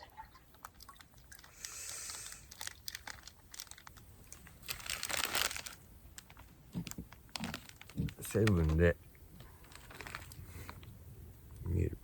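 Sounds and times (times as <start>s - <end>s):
plastic packaging crinkling: 0.3s - 10.9s.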